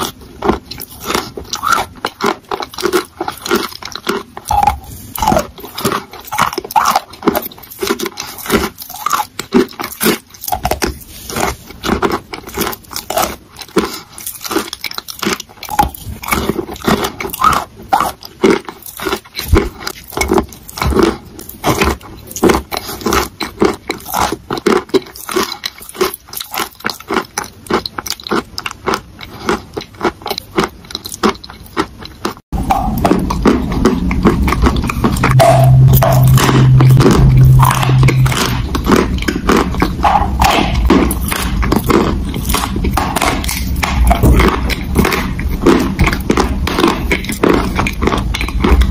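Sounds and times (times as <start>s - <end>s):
steady background noise: 0.0s - 48.9s
sticky chewing clicks and smacks: 0.0s - 48.9s.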